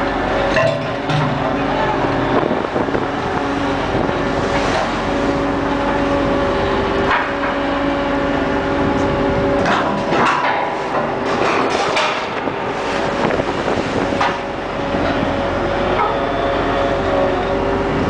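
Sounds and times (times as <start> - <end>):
crane machinery droning: 0.0 - 18.0.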